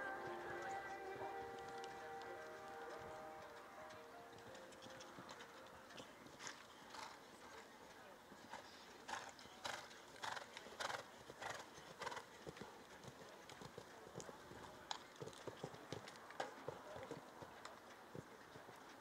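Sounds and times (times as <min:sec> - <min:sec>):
horse cantering on sand: 0:00.0 - 0:19.0.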